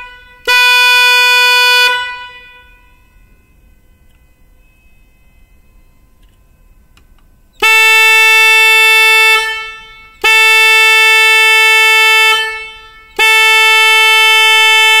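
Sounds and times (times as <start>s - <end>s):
electric car horn blasts: 0.0s - 5.1s, 7.4s - 15.0s.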